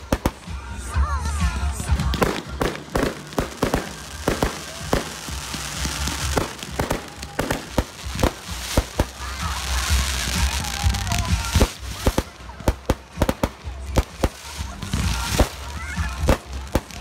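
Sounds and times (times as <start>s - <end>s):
fireworks bangs and launch thumps: 0.0s - 17.0s
hiss of burning fireworks: 0.0s - 17.0s.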